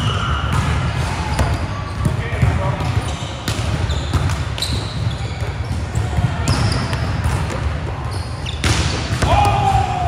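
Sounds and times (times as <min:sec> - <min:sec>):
basketball bouncing on court: 0:00.0 - 0:09.8
gym background noise: 0:00.0 - 0:10.0.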